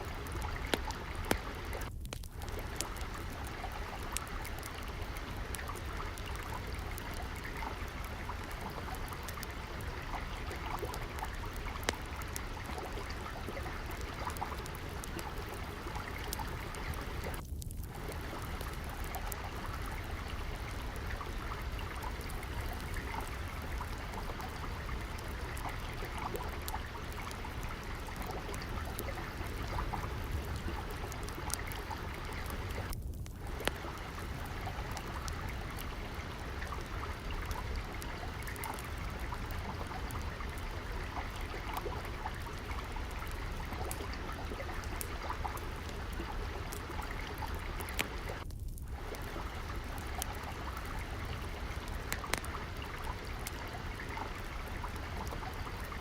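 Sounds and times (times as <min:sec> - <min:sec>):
water trickling: 0:00.0 - 0:56.0
wood fire crackling: 0:00.0 - 0:56.0.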